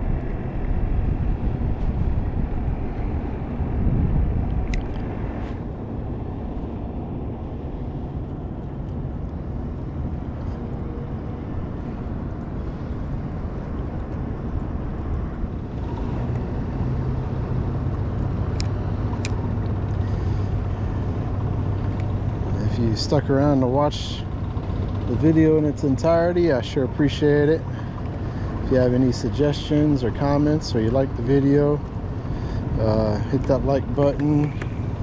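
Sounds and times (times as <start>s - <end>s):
boat motor running: 0.0s - 35.0s
wind and water rushing: 0.0s - 35.0s.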